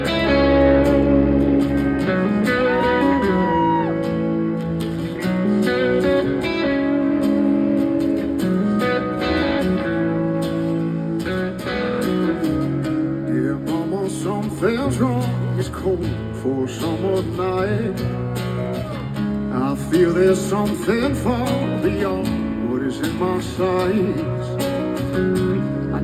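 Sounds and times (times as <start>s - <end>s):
country-rock guitars over beat: 0.0s - 26.0s.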